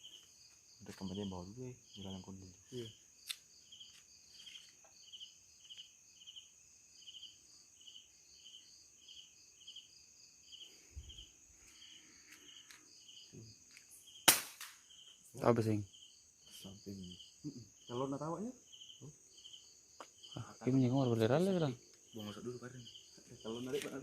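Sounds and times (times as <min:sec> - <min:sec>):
crickets chirping: 0:00.0 - 0:24.0
insects buzzing: 0:00.0 - 0:24.0.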